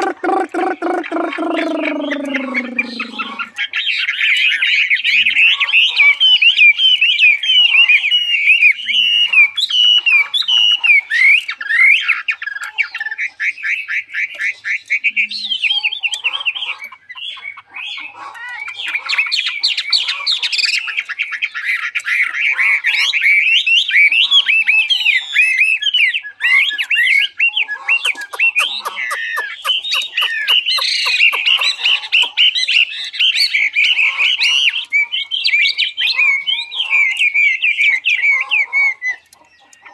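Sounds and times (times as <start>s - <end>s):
bird singing whistles and trills: 0.0s - 16.7s, 20.7s - 39.9s.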